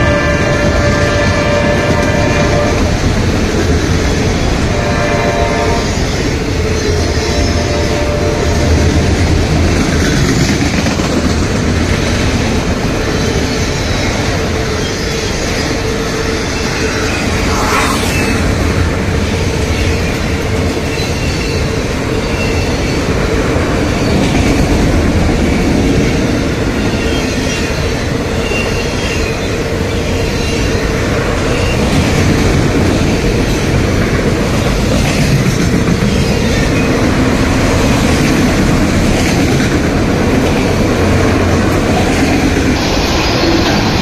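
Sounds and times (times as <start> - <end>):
rattling train cars: 0.0 - 44.0
train wheels on rails: 0.0 - 44.0.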